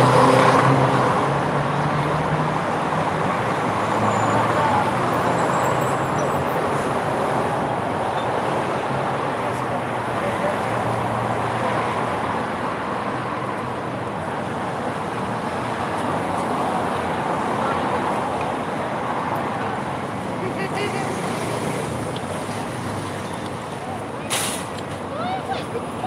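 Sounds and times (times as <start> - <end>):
city traffic hum: 0.0 - 26.0.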